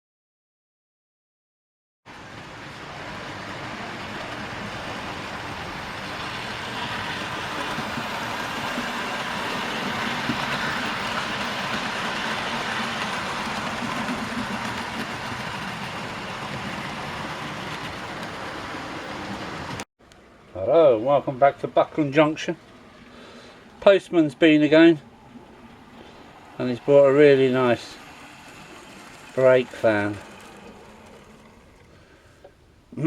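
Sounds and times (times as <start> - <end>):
model train running on track: 2.1 - 19.8, 20.6 - 32.4.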